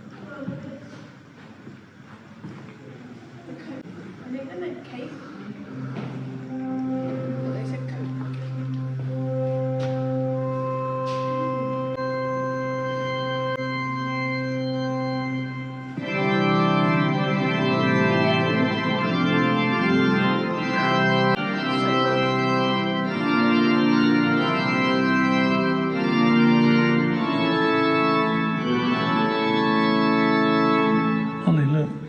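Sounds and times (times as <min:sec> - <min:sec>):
organ playing held chords: 0:05.6 - 0:32.0.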